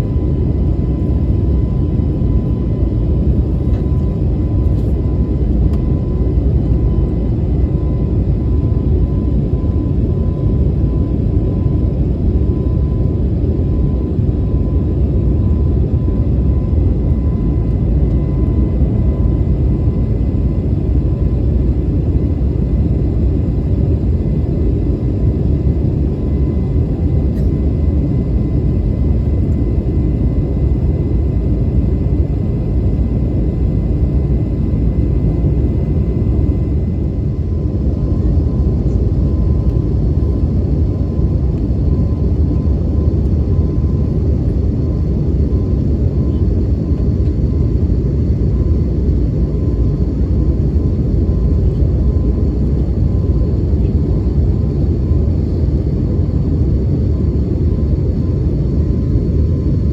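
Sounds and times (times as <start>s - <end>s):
airplane engines rumbling in cabin: 0.0s - 59.9s.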